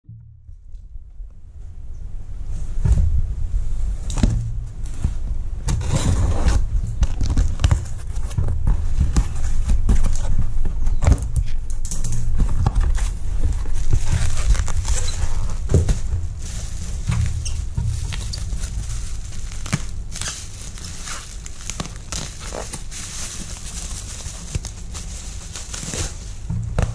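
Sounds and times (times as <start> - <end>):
steady low rumble: 0.0 - 26.9
plastic rustling: 2.6 - 26.9.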